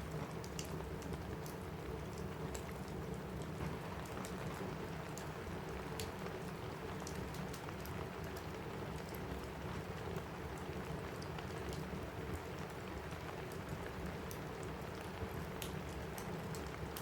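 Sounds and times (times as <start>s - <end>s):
rain pattering on a roof: 0.0s - 17.0s
wood fire crackling: 0.0s - 17.0s.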